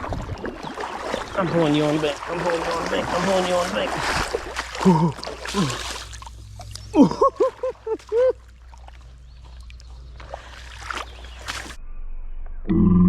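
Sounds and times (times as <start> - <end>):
water splashing and sloshing: 0.0 - 11.8.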